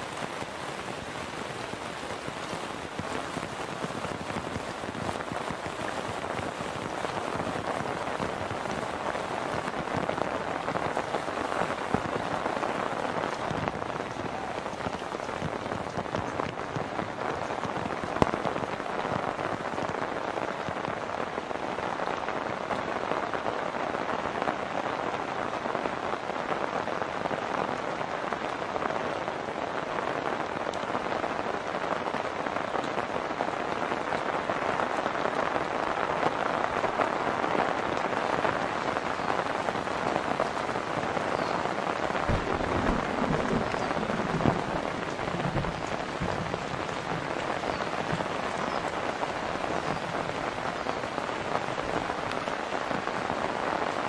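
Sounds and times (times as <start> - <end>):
heavy rain on road and water: 0.0 - 54.0.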